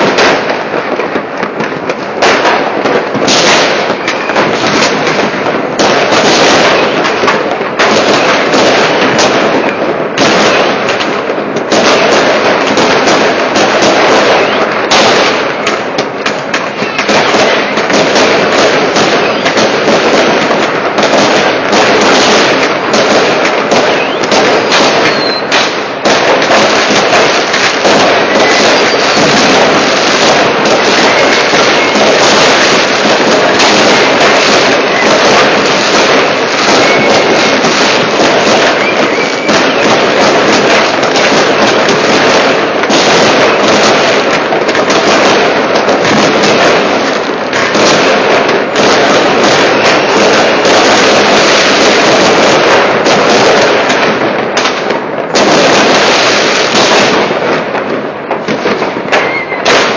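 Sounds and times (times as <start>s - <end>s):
fireworks and firecrackers crackling: 0.0s - 59.9s.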